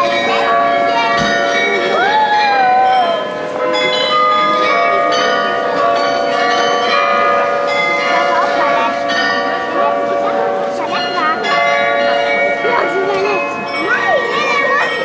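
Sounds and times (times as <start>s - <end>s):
bells playing a tune: 0.0s - 15.0s
murmur of onlookers: 0.0s - 15.0s.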